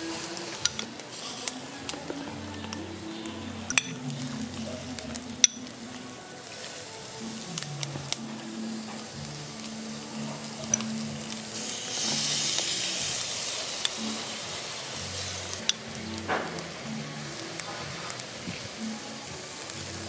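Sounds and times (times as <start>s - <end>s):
fire pops and crackles: 0.0s - 20.0s
snails sizzling and bubbling: 0.0s - 20.0s.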